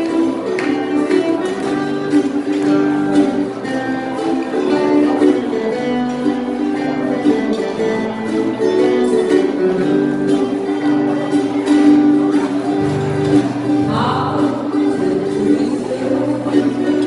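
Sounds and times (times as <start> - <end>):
acoustic guitars strummed and picked: 0.0 - 17.0.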